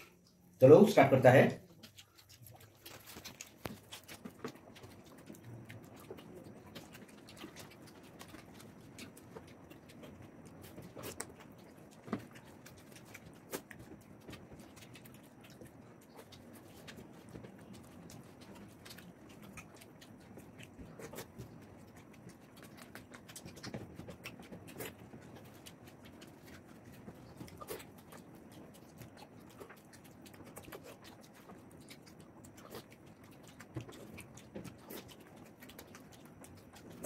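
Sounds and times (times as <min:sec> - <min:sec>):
chewing and mouth smacks: 0:01.6 - 0:37.0.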